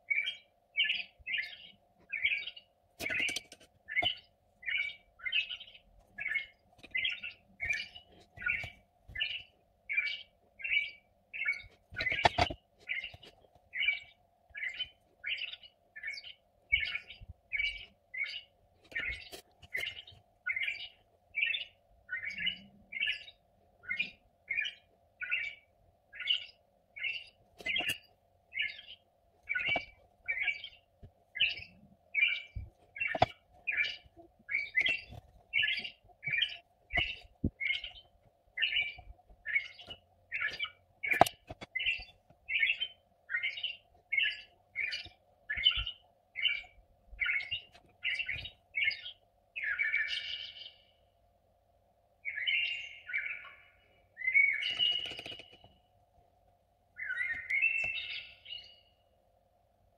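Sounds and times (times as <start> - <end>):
bird chirping: 0.0 - 51.1, 52.2 - 55.9, 57.0 - 59.0.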